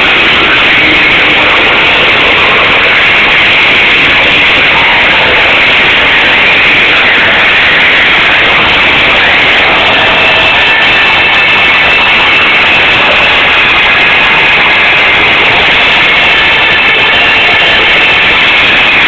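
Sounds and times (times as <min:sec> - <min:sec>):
crowd cheering: 0:00.0 - 0:19.0.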